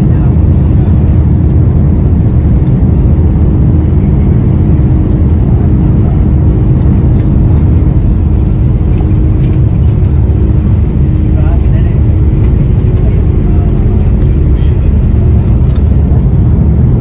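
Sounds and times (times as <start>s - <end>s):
jet engines deep rumble in cabin: 0.0s - 17.0s.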